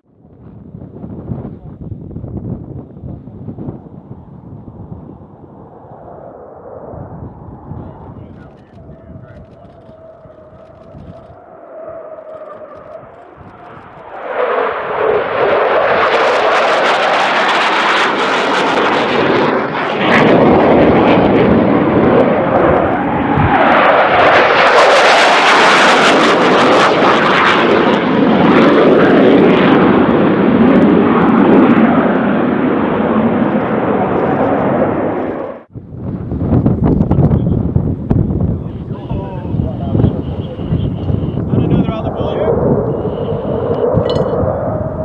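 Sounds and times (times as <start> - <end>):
jet engine roar: 2.6 - 45.0.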